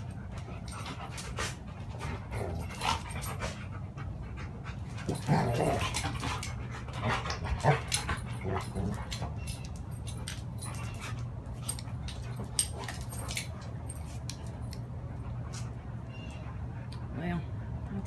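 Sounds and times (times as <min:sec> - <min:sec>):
dog panting and whimpering: 0:00.0 - 0:17.9.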